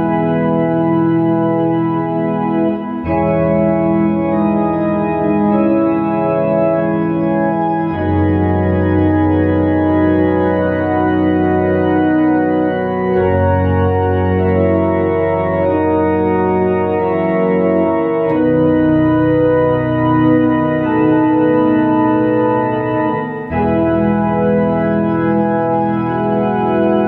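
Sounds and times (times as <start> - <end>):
deep organ pedal bass notes: 0.0 - 27.0
organ playing hymn chords: 0.0 - 27.0.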